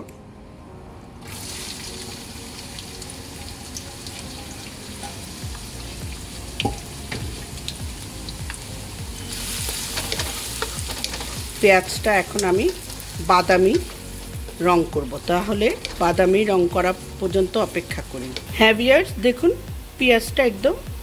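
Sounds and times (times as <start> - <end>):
onions sizzling in oil: 1.2 - 21.0.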